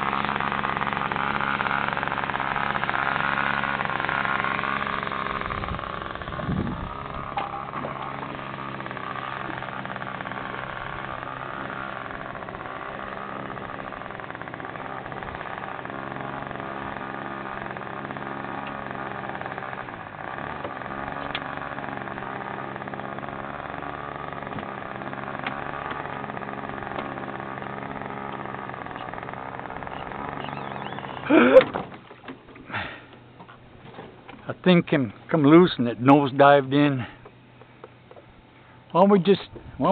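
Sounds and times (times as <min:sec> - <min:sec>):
small engine idling: 0:00.0 - 0:39.9.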